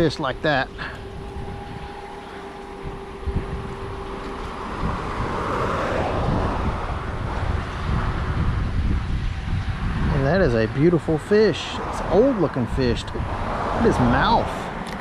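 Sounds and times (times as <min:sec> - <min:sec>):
highway traffic passing: 0:00.0 - 0:15.0
wind buffeting microphone: 0:00.0 - 0:15.0.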